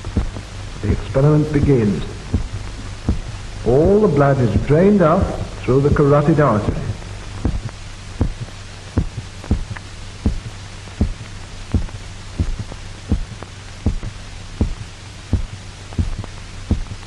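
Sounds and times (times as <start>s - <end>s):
heartbeat thumping: 0.0s - 17.0s
low hum: 0.0s - 17.0s.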